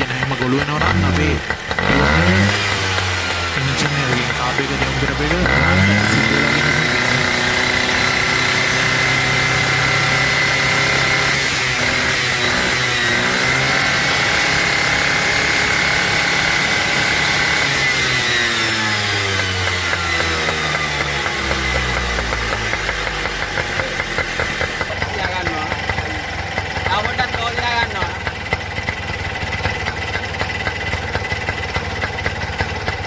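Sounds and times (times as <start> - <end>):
two-stroke engine idling: 0.0 - 33.0.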